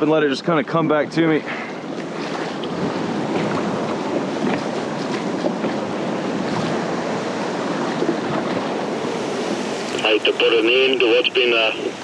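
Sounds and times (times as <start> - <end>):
ocean surf waves: 0.0 - 12.0
wind buffeting microphone: 0.0 - 12.0.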